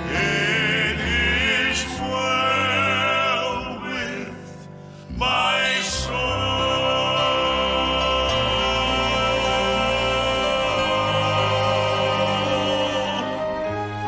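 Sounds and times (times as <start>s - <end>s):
vocal quartet singing a hymn: 0.0s - 14.0s.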